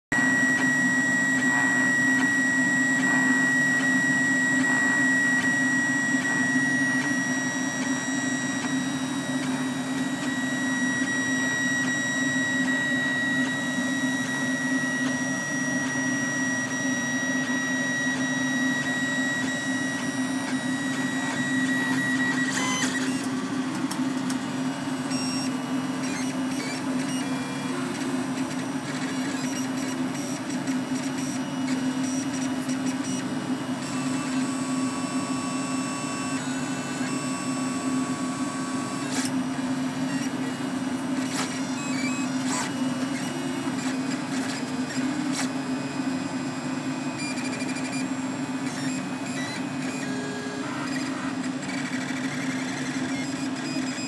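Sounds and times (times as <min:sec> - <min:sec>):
printer hum: 0:00.1 - 0:54.0
stepper motors whining: 0:00.2 - 0:46.2, 0:47.0 - 0:54.0.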